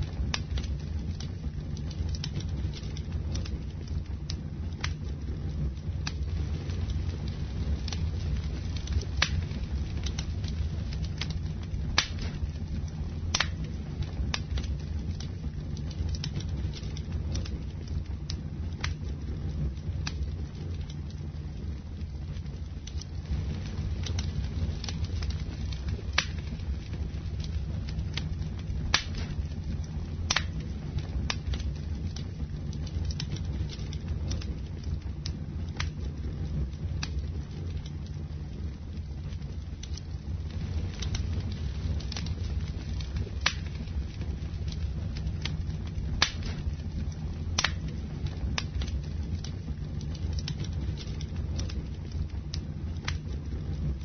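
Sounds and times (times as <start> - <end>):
burning wood crackling and popping: 0.0 - 54.0
campfire low rumble: 0.0 - 54.0.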